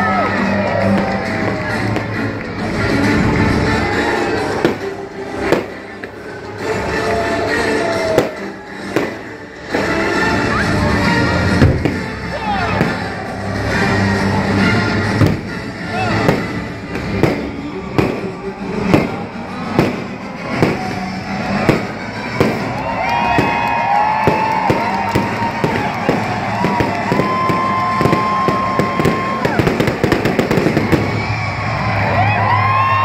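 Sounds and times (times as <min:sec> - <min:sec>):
fireworks bangs and crackles: 0:00.6 - 0:32.6.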